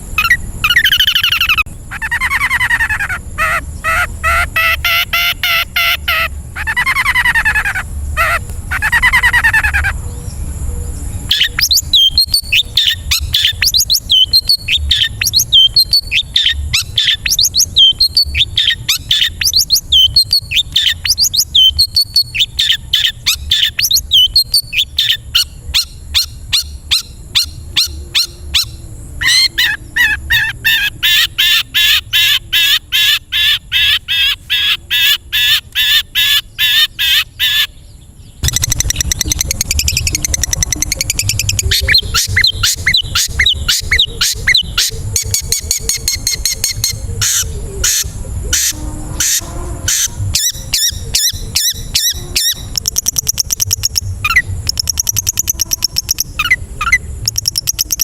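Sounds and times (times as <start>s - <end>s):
bird song with chirps: 0.0s - 58.0s.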